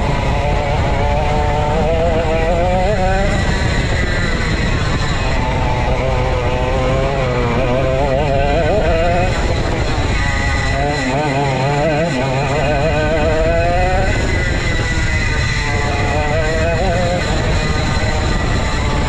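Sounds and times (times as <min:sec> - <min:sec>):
go-kart engine revving: 0:00.0 - 0:19.0
wind rumble: 0:00.0 - 0:19.0.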